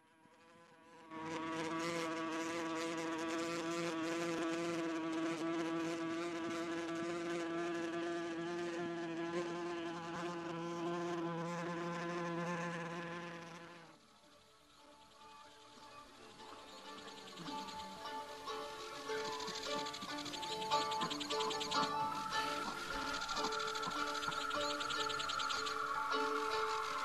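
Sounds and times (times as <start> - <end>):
buzzing drone with hiss: 0.0 - 27.0.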